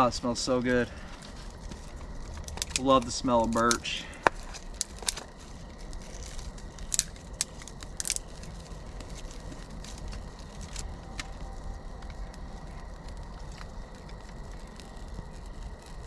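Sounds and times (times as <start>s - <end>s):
fire crackling and popping: 0.0s - 16.0s
low steady background: 0.0s - 16.0s.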